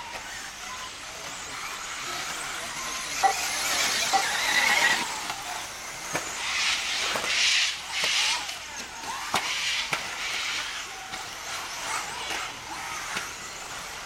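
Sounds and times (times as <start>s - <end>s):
rc cars motors rushing: 0.0s - 14.0s.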